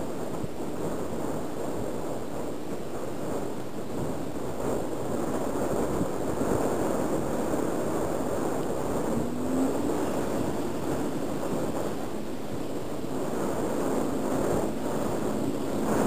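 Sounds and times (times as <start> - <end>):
distant light aircraft engine: 0.0 - 16.0
wind on microphone: 0.0 - 16.0.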